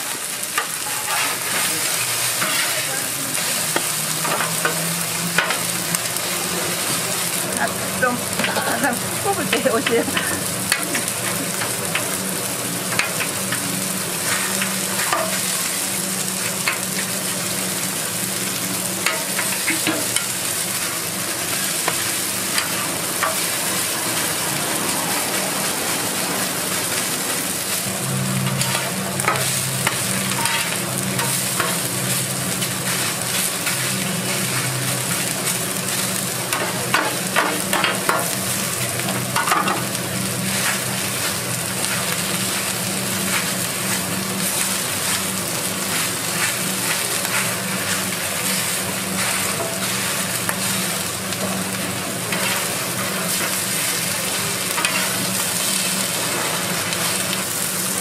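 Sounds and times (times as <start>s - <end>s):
pancakes sizzling on griddle: 0.0s - 58.0s.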